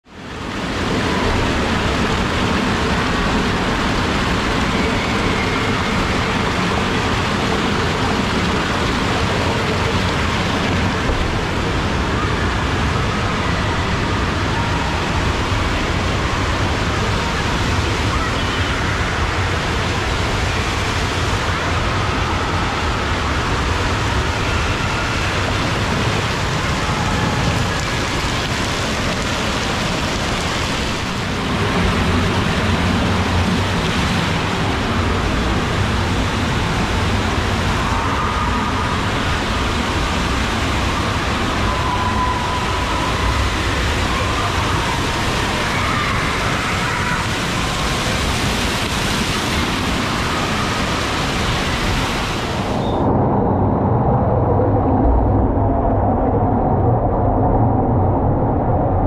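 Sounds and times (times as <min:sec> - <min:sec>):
water rushing down slide: 0:00.2 - 0:59.0.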